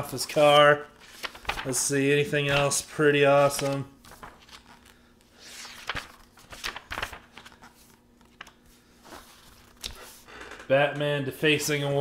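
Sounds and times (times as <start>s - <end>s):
book pages turning: 0.0s - 10.3s.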